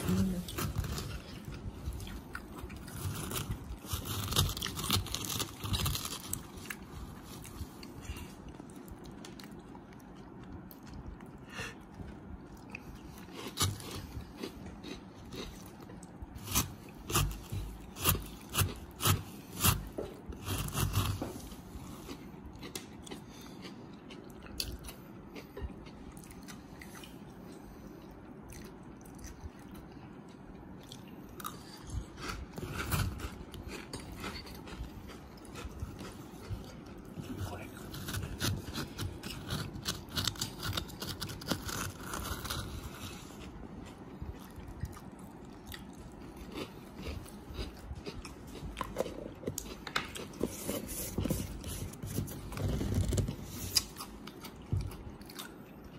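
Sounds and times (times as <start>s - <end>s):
crunchy crisps being chewed: 0.0s - 55.9s.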